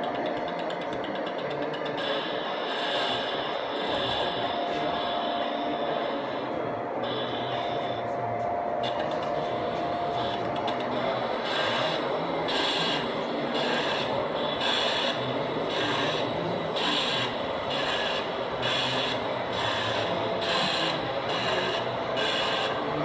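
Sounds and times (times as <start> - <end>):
model steam locomotive chuffing: 0.0 - 23.0.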